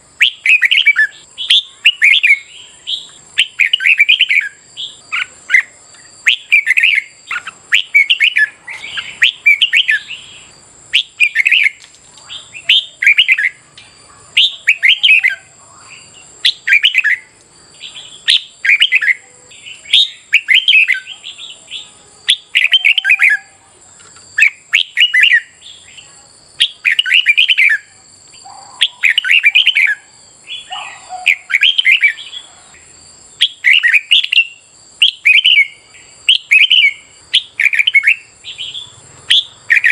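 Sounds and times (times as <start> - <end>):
bird warbling song: 0.2 - 39.9.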